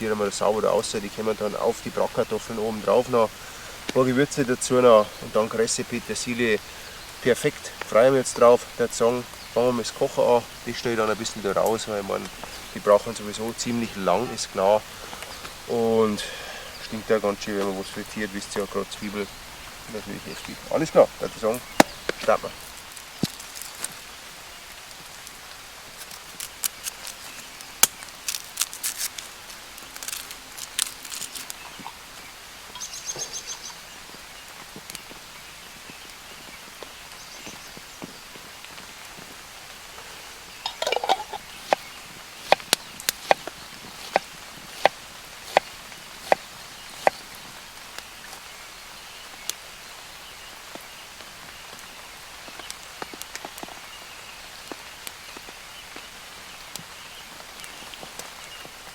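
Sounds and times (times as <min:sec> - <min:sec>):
rustle: 0:00.0 - 0:58.9
steady rain: 0:00.0 - 0:58.9.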